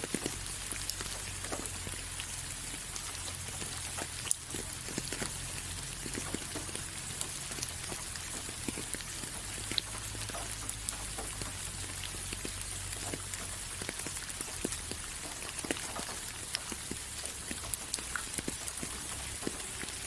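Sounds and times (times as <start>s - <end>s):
raindrops ticking on a surface: 0.0s - 20.0s
steady rain hiss: 0.0s - 20.0s.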